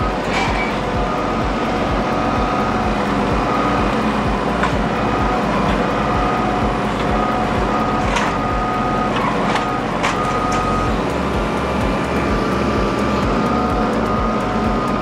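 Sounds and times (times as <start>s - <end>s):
tractor engine running with whine: 0.0s - 15.0s.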